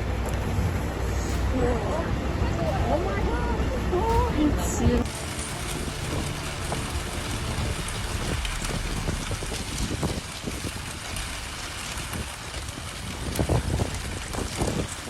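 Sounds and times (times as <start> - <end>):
low rumble: 0.0 - 15.0
wind buffeting microphone: 0.0 - 15.0.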